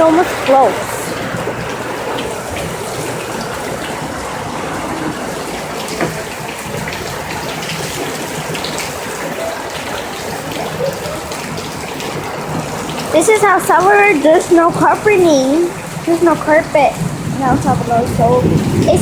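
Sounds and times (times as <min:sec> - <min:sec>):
drip and splash ticks: 0:00.0 - 0:04.6, 0:05.3 - 0:19.0
heavy rain pouring: 0:00.0 - 0:19.0.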